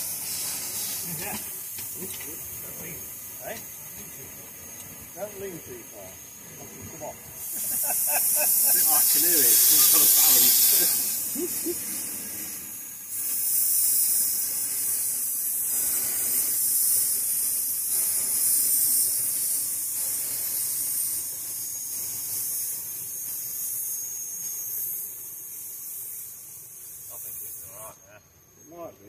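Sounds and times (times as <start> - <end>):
steam hissing from locomotive: 0.0 - 29.0.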